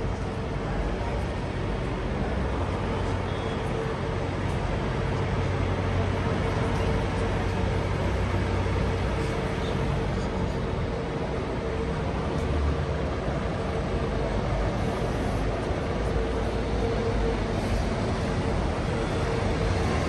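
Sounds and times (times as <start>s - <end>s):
engine hum: 0.0s - 20.0s
street traffic: 0.0s - 20.0s.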